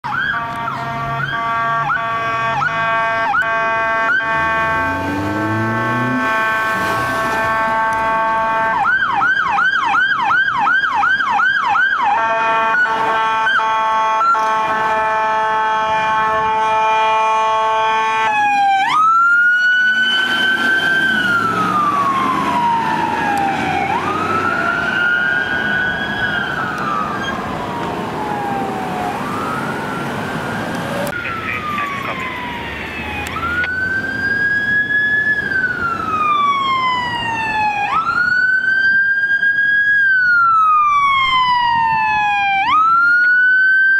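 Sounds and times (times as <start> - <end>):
electronic emergency siren: 0.0 - 43.9.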